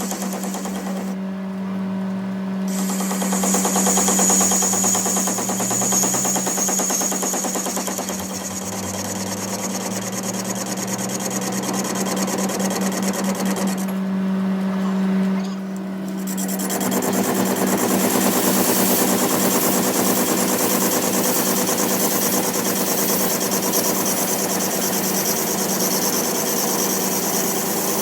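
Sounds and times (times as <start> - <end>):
power tool rattling and humming: 0.0 - 1.7, 2.6 - 28.0.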